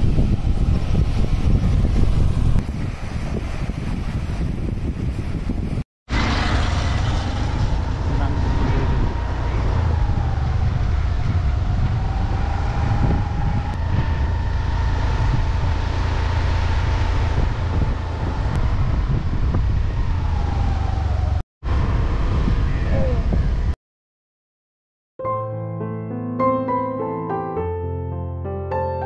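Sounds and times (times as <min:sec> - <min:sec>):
road noise: 0:00.0 - 0:23.8
wind rumble on microphone: 0:00.0 - 0:23.8.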